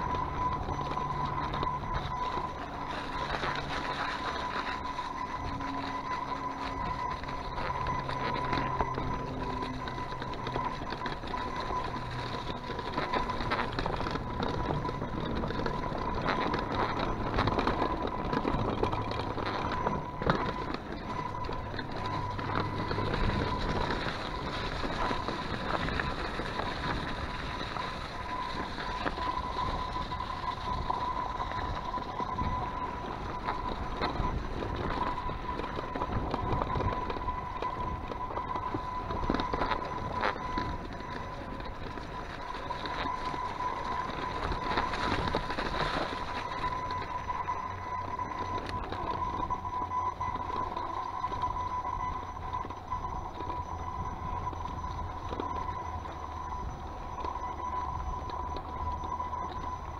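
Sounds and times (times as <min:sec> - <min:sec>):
bike rattling over bumps: 0:00.0 - 0:59.9
bike tyres rolling on rough trail: 0:00.0 - 0:59.9
thin steady whine: 0:00.0 - 0:59.9.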